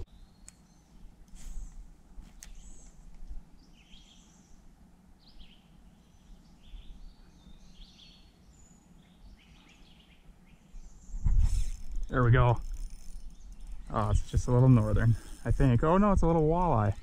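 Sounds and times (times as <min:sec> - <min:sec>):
faint songbird calls: 0:00.0 - 0:16.2.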